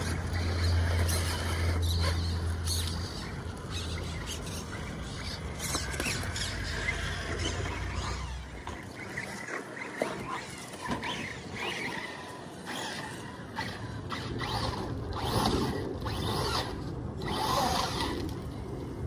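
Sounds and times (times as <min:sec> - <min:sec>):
tyres scraping on rock: 0:00.0 - 0:16.6
toy car motor humming: 0:00.0 - 0:18.5.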